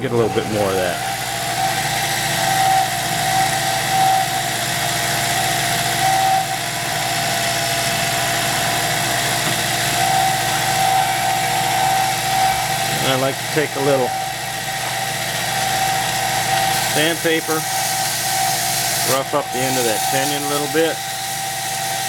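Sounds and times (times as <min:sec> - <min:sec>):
cutting tool trimming: 0:00.0 - 0:22.0
lathe humming with whining tone: 0:00.0 - 0:22.0.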